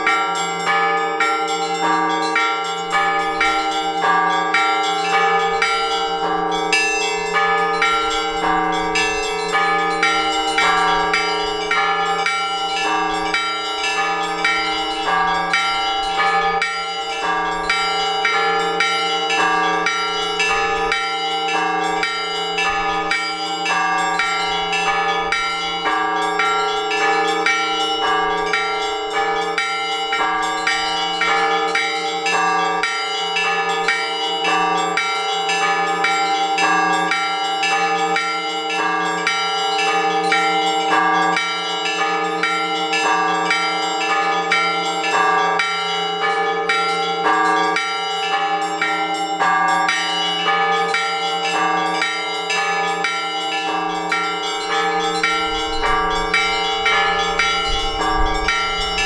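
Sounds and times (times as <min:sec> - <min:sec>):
church bells ringing: 0:00.0 - 0:59.0
hum of large bells: 0:00.0 - 0:59.0.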